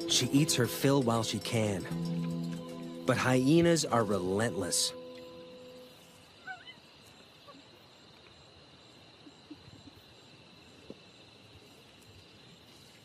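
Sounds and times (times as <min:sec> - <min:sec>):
insects trilling: 0:00.0 - 0:13.0
pulsing insect chirp: 0:00.0 - 0:13.0.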